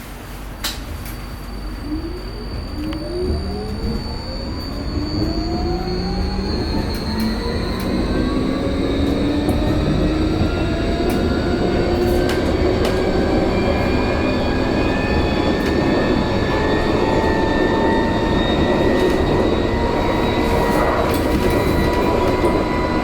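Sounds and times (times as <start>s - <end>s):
tram rolling noise: 0.0s - 23.0s
tram traction drive whining: 0.9s - 23.0s.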